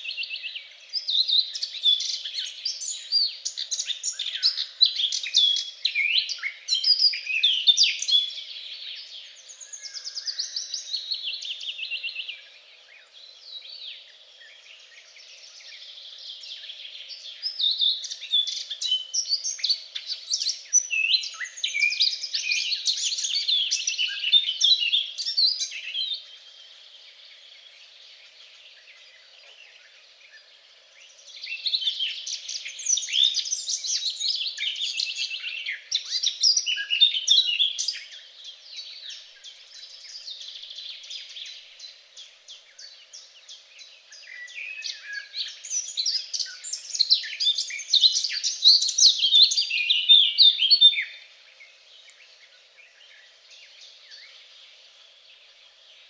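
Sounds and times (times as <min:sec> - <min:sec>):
songbirds twittering: 0:00.0 - 0:56.0.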